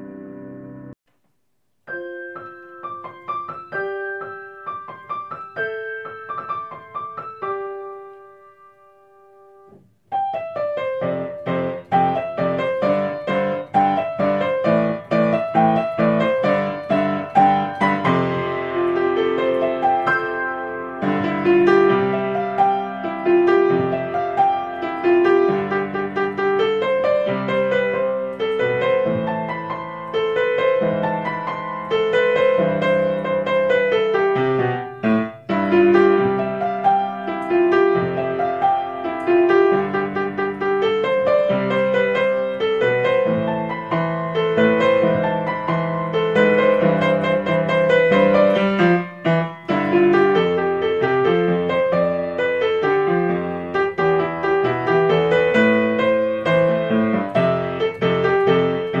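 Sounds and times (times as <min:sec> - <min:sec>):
keyboard music: 0:01.9 - 0:59.0.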